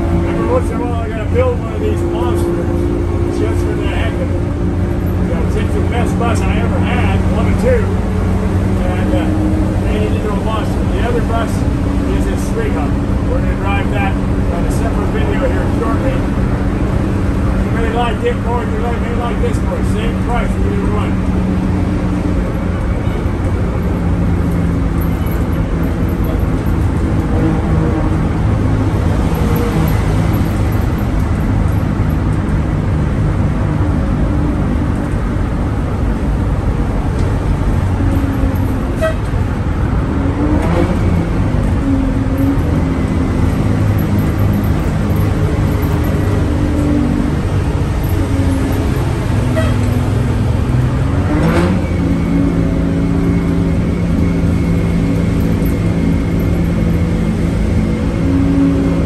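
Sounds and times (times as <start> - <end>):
diesel engine running: 0.0 - 59.0
road noise: 0.0 - 59.0.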